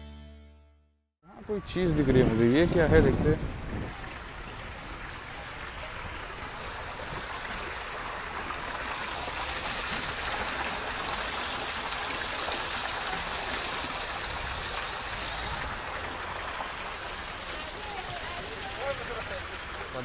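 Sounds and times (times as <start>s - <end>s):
water splashing into pool: 2.2s - 20.0s.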